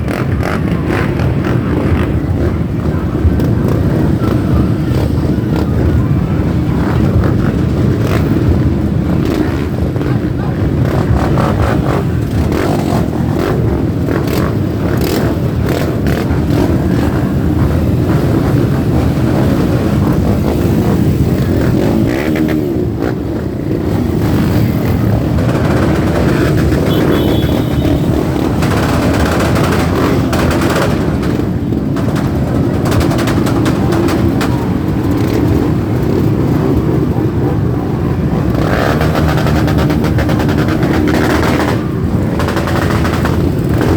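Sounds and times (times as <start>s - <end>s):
motorcycle engines rumbling: 0.0s - 43.9s
motorcycle revving: 0.0s - 43.9s.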